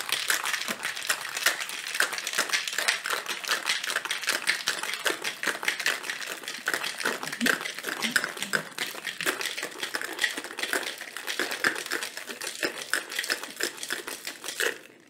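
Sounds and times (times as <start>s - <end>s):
ice rattling in cocktail shaker: 0.0s - 15.0s.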